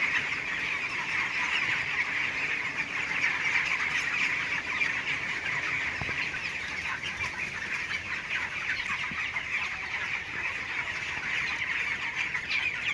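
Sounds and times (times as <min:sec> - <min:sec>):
chicks chirping: 0:00.0 - 0:12.9.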